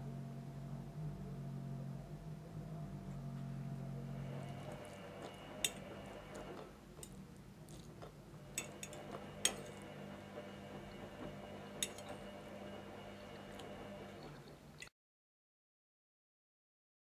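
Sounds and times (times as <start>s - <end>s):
faint low hum: 0.0s - 14.9s.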